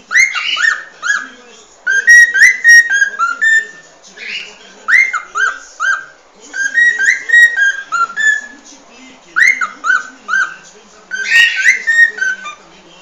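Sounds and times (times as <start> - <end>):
cockatiel whistling: 0.0 - 8.6, 9.4 - 12.6.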